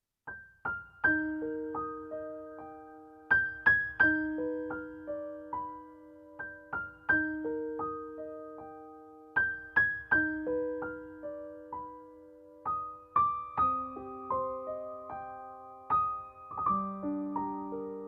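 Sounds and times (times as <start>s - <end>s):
gentle piano melody: 0.2s - 18.0s.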